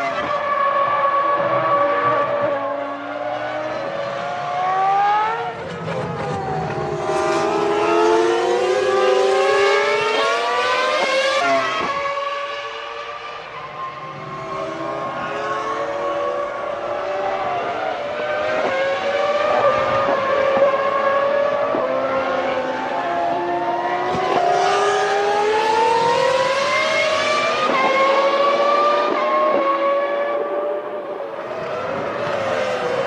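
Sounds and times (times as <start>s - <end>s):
racing car engines revving: 0.0s - 33.0s.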